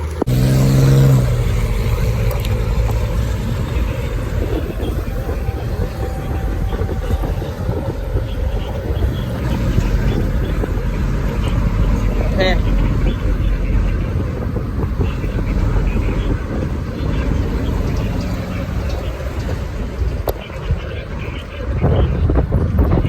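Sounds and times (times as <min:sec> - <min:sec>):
car engine: 0:00.0 - 0:23.0
road and wind noise rumble: 0:00.0 - 0:23.0.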